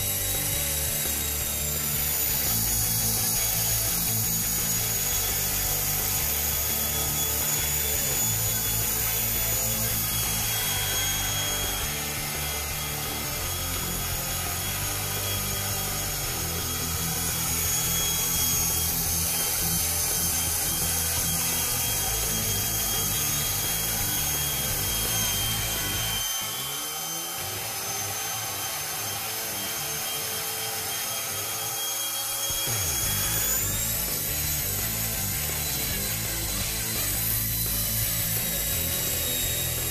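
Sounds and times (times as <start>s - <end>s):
rc helicopter motor whining: 0.0s - 39.9s.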